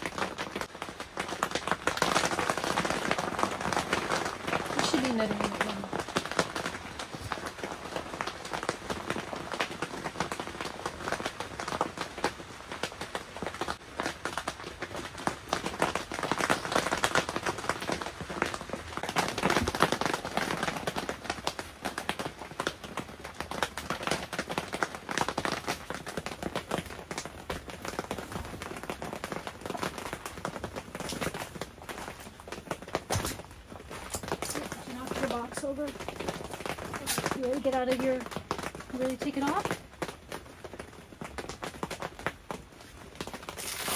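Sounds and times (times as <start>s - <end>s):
rain pattering on tent fabric: 0.0s - 43.9s.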